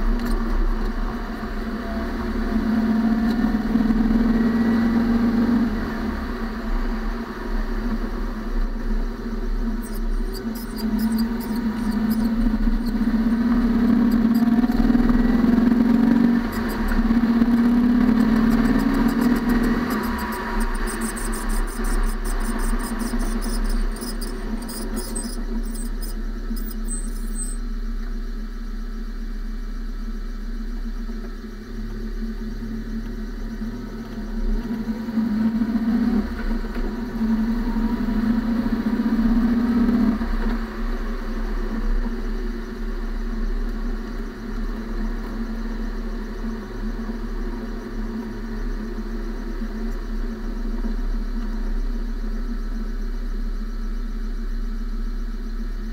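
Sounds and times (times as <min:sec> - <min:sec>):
tyre and road noise: 0:00.0 - 0:27.6, 0:33.0 - 0:51.4.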